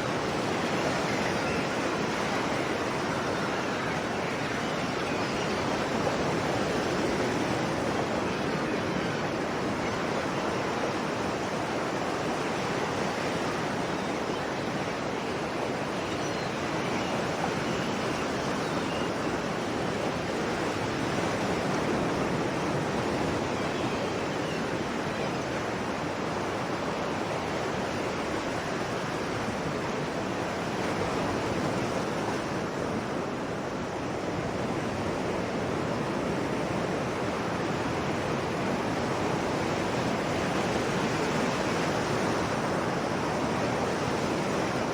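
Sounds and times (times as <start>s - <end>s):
sea waves surf: 0.0s - 44.9s.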